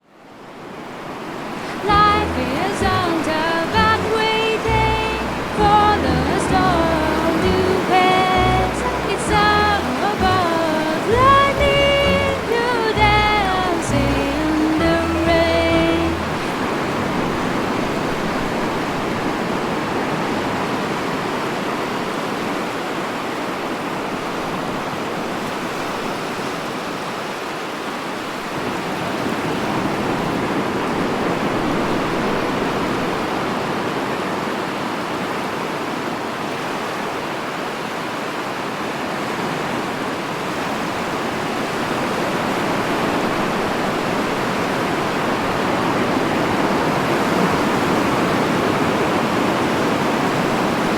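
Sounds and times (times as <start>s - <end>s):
sea surf washing on shore: 0.0s - 50.9s.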